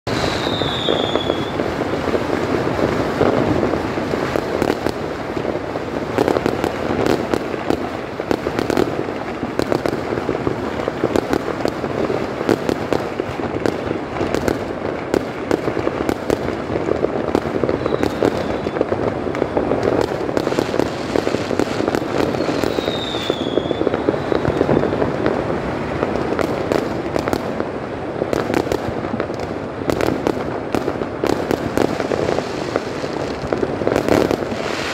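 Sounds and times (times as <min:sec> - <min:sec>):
fireworks crackling and popping: 0:00.0 - 0:34.9
firework whistles: 0:00.1 - 0:13.6, 0:15.2 - 0:27.1, 0:31.5 - 0:34.9.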